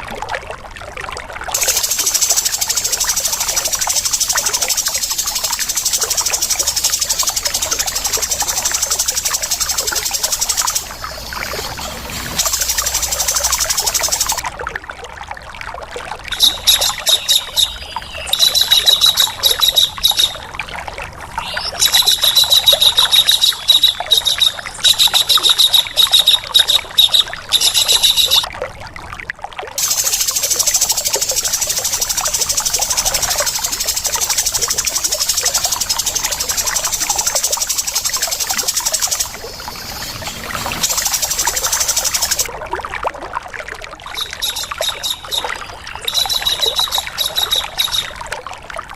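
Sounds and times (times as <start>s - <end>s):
birds rattling trills: 1.6s - 14.4s, 16.3s - 20.5s, 21.3s - 28.4s, 29.8s - 42.5s, 44.1s - 48.2s.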